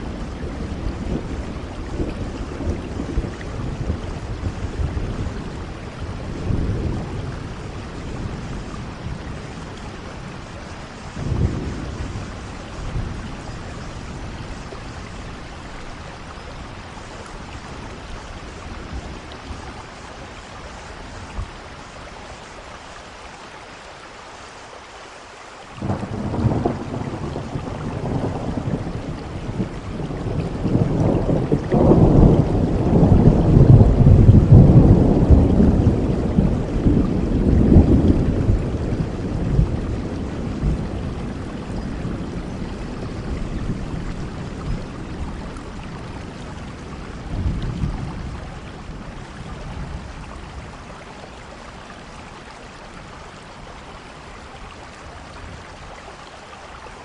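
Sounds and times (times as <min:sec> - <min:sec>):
thunder rumbling: 0:00.0 - 0:21.7, 0:25.8 - 0:50.9
steady rain: 0:00.0 - 0:57.0.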